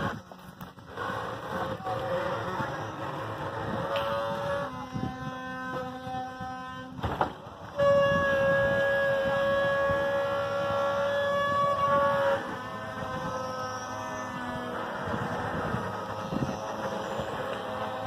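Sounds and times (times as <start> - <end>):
wooden axle whining: 0.0 - 18.0.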